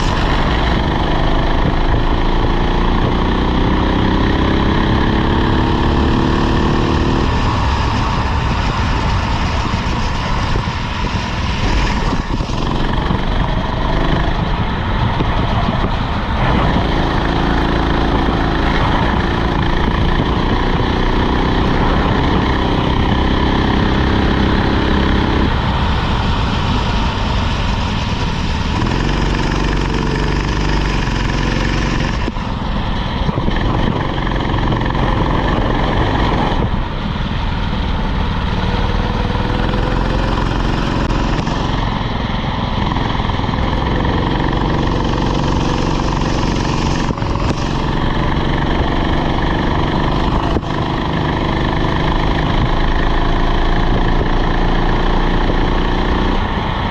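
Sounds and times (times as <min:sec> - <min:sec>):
kart engine accelerating: 0:00.0 - 0:56.9
steady rush of noise: 0:00.0 - 0:56.9.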